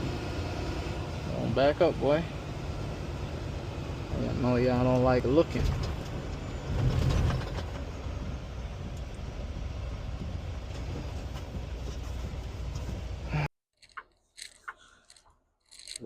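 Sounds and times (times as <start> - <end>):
diesel truck engine rumbling: 0.0 - 13.5.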